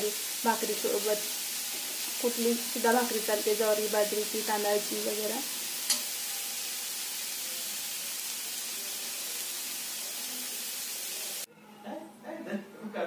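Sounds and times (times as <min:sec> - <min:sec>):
high-pitched sizzling hiss: 0:00.0 - 0:11.5.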